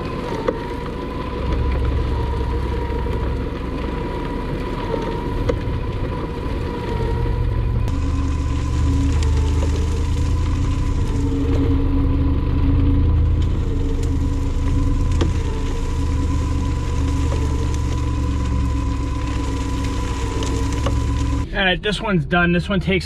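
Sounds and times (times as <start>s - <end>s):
thin high whine: 0.0s - 23.0s
truck engine running: 0.0s - 23.0s.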